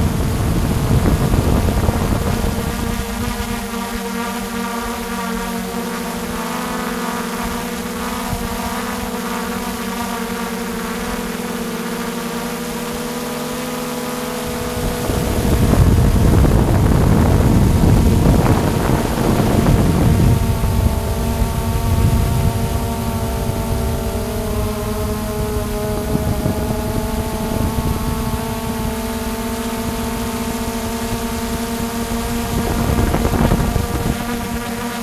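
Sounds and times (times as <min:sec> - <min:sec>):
wind rumble on microphone: 0:00.0 - 0:06.5, 0:07.2 - 0:11.2, 0:14.4 - 0:35.0
drone propellers whining: 0:00.0 - 0:35.0.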